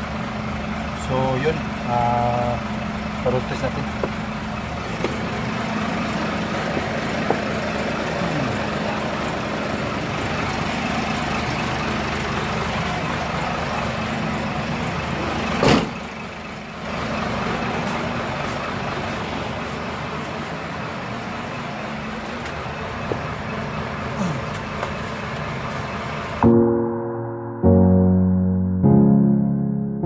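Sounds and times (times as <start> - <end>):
vehicle engine idling: 0.0 - 26.5.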